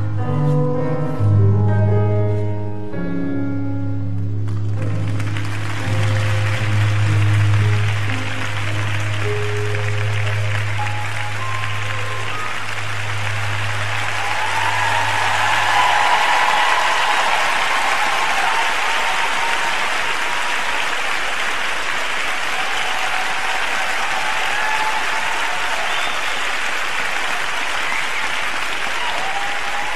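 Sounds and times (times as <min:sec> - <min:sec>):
crowd applauding: 0:04.4 - 0:29.9
crowd cheering: 0:04.8 - 0:29.9.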